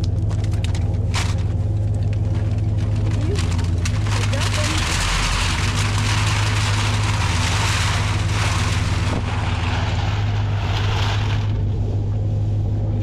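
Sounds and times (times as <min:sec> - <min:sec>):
continuous rushing noise: 0:00.0 - 0:13.0
engine droning steadily: 0:00.0 - 0:13.0.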